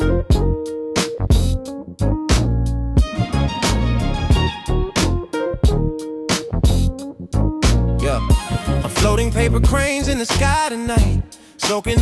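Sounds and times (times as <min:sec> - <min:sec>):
instrumental music with drums and bass: 0:00.0 - 0:12.0.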